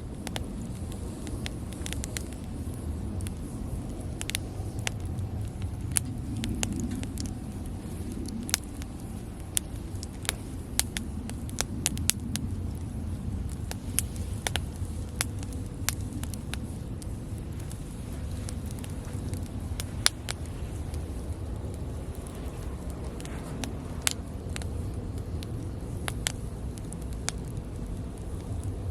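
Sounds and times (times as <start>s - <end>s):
campfire crackling and popping: 0.0s - 28.9s
low steady rumble: 0.0s - 28.9s.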